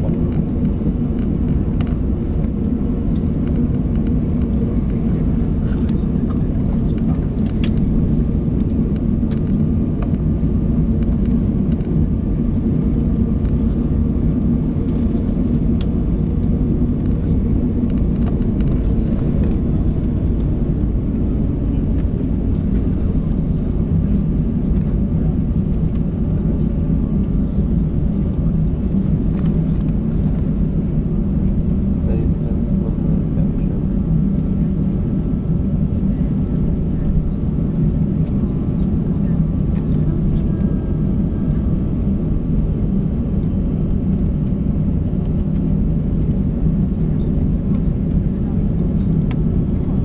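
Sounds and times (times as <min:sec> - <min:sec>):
airplane cabin low rumble: 0:00.0 - 0:50.0.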